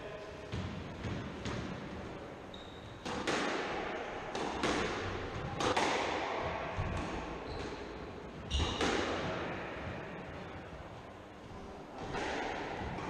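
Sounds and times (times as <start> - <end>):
squash ball hitting rackets and walls: 0.4 - 10.7, 11.5 - 13.0.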